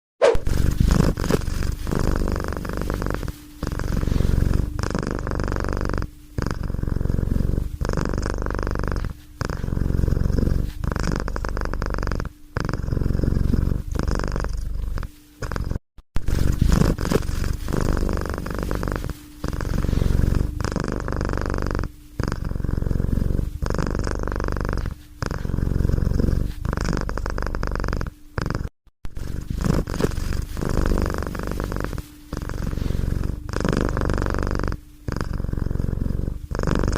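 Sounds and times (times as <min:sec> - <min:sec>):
cat purring: 0:00.3 - 0:36.9.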